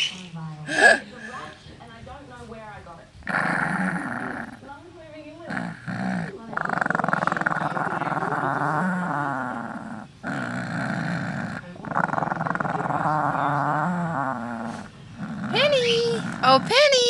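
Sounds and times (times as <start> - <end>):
small dog growling: 3.2 - 17.0.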